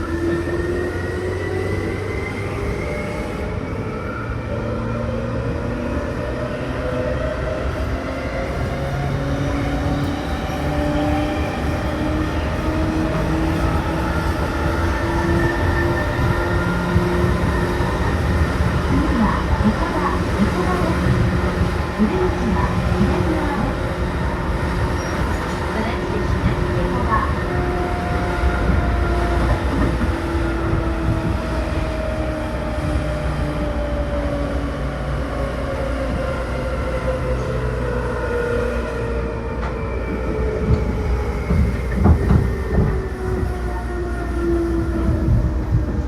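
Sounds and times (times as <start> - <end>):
train wheels rumbling on rail: 5.0 - 46.0.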